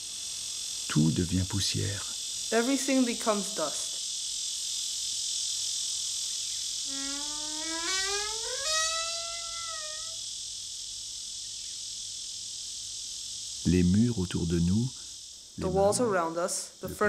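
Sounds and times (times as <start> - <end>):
high cricket-like chirring: 0.0 - 17.0.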